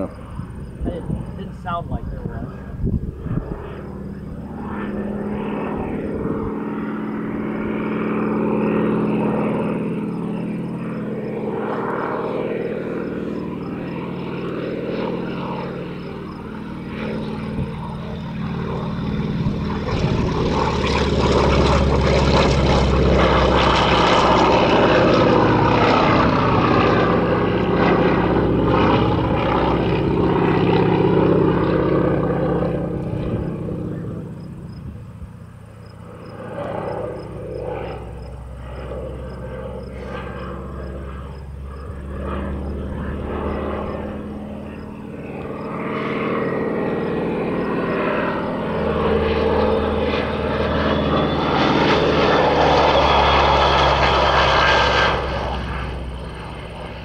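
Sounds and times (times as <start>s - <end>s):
propeller plane engine passing: 0.0s - 57.0s.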